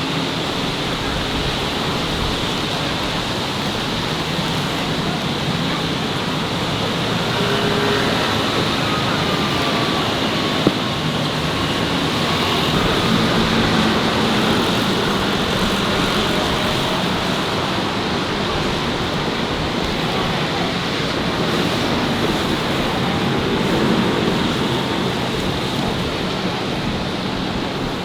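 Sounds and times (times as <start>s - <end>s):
passing vehicles on city road: 0.0s - 28.0s.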